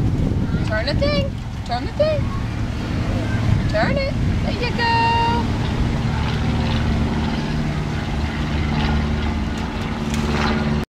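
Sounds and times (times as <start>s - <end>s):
low engine drone: 0.0s - 10.9s.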